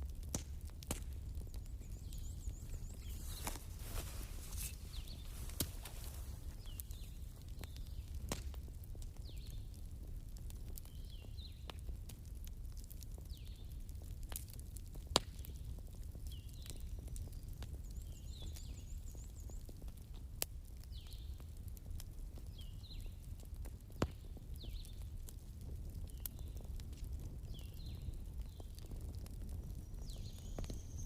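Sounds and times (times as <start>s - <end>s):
bonfire crackling and popping: 0.0s - 31.0s.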